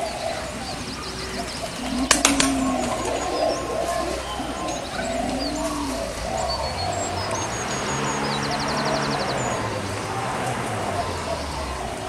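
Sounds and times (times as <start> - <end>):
low rising and falling bird call: 0.0 - 12.0.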